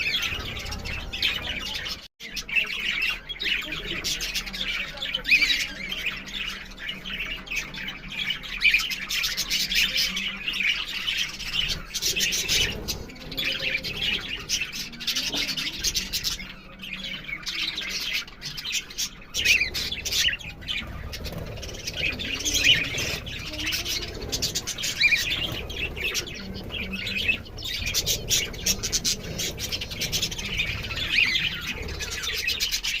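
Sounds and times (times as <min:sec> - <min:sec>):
budgerigars chirping: 0:00.0 - 0:33.0.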